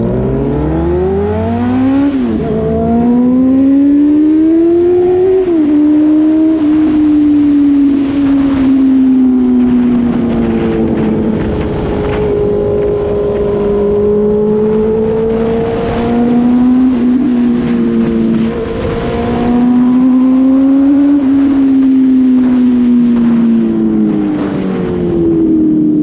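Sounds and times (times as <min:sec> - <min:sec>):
motorcycle engine running: 0:00.0 - 0:26.0
wind rushing on microphone: 0:00.0 - 0:26.0.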